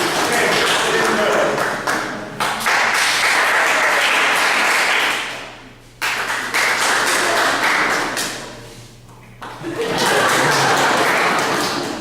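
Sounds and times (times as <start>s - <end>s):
audience applauding: 0.0s - 5.4s, 6.0s - 8.3s, 9.6s - 12.0s.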